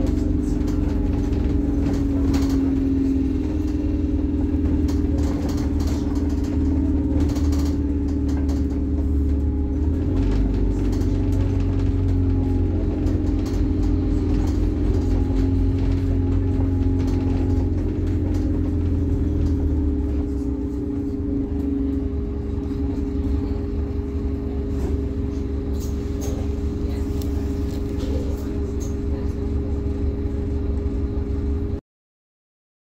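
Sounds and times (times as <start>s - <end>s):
rattles: 0.0s - 29.5s
bus diesel engine drone: 0.0s - 31.8s.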